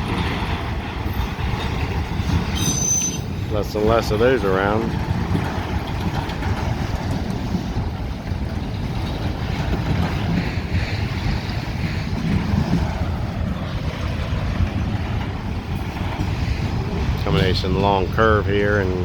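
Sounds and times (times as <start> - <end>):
train wheels rumbling on rails: 0.0 - 19.0
wind noise on microphone: 0.0 - 19.0.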